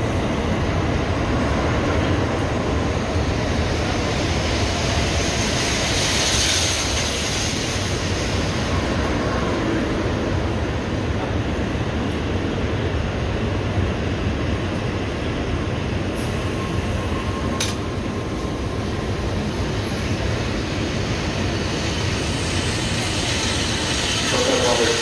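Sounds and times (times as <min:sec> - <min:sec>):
train rolling into station: 0:00.0 - 0:25.0.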